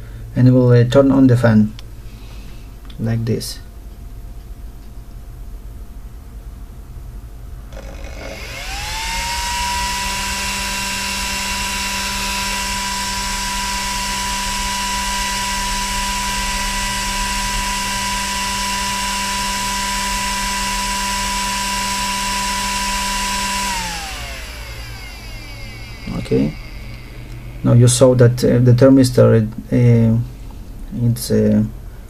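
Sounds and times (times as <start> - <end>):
cooling fan whining: 0.0 - 32.0.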